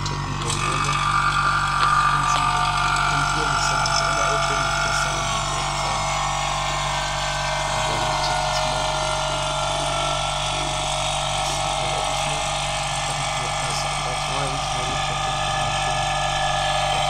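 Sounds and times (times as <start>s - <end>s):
vacuum pump running: 0.0s - 17.0s.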